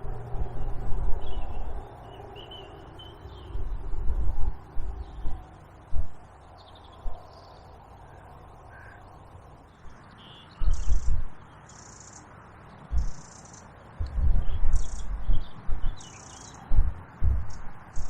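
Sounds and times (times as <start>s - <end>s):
wind buffeting microphone: 0.0s - 11.5s, 12.8s - 18.0s
birds calling: 0.0s - 18.0s.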